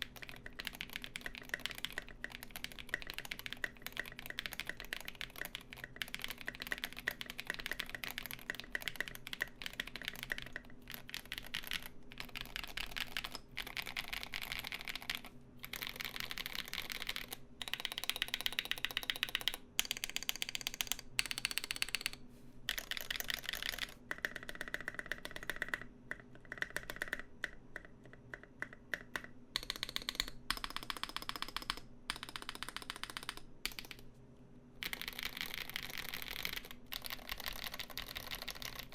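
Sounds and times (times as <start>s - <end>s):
mechanical keyboard typing: 0.0s - 34.1s, 34.8s - 38.9s
faint fan hum: 0.0s - 38.9s.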